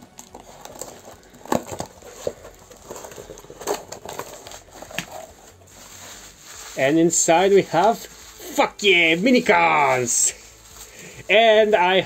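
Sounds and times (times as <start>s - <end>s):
packaging crinkling: 0.0s - 11.7s.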